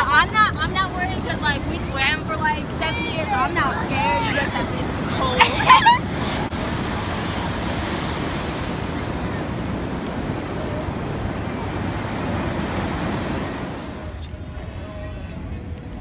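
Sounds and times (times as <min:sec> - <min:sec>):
ocean surf breaking: 0:00.0 - 0:14.5
wind on microphone: 0:00.0 - 0:16.0.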